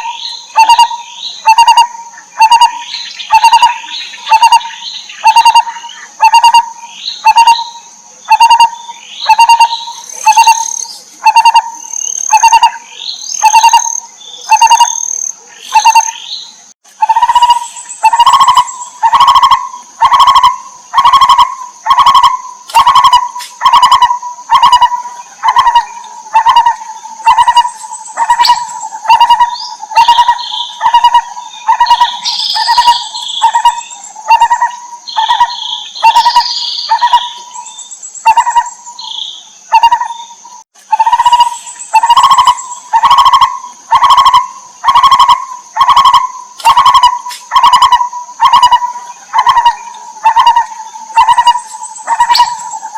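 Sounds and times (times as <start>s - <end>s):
barbet calling: 0.0s - 52.9s.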